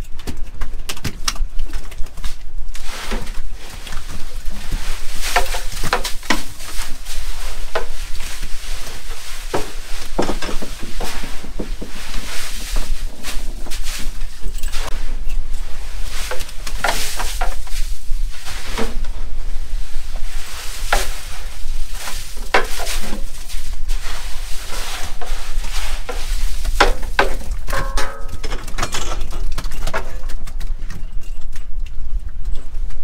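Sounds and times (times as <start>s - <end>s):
low rumble and hiss: 0.0s - 33.0s.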